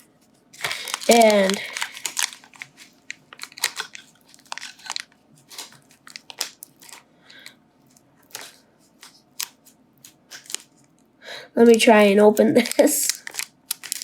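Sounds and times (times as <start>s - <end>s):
foil wrapper crinkling: 0.0s - 10.9s, 12.3s - 14.0s.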